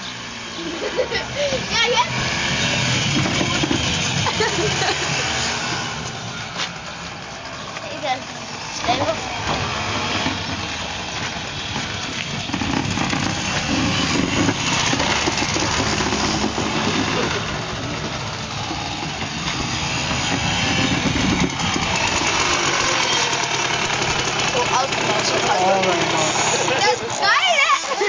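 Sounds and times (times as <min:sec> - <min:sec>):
plastic bins rolling over pavement: 0:00.6 - 0:28.0.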